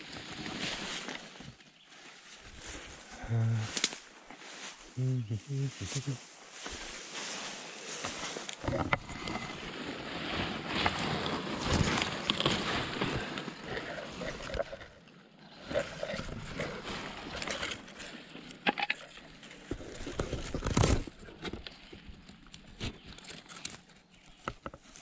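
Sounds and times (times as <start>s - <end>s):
leaves rustling against microphone: 0.0s - 25.0s.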